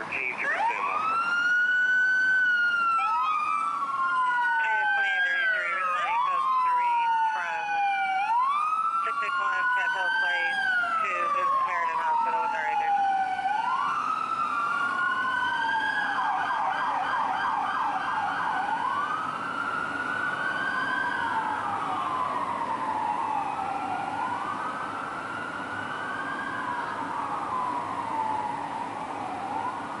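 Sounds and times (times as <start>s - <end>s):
fire engine siren wailing: 0.0s - 30.0s.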